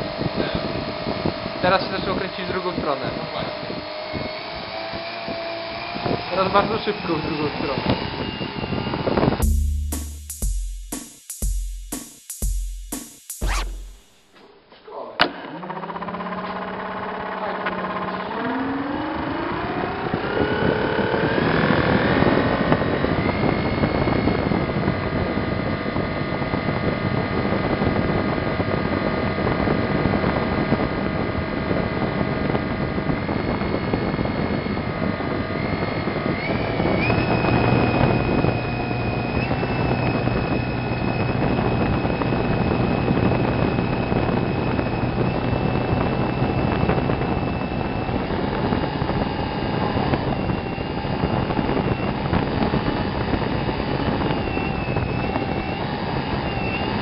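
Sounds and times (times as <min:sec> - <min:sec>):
small motor whining: 0:00.0 - 0:09.4, 0:13.4 - 0:13.8, 0:15.2 - 0:57.0.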